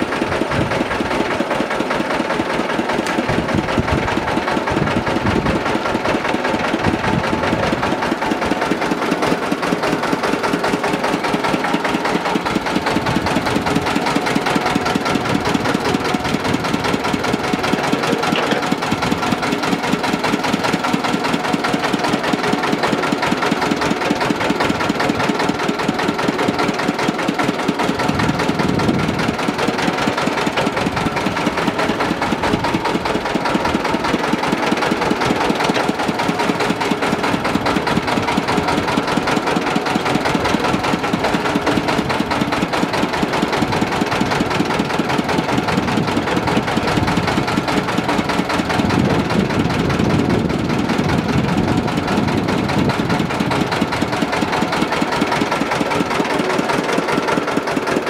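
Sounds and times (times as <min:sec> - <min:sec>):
crusher rollers: 0:00.0 - 0:58.0
diesel engine running: 0:00.0 - 0:58.0.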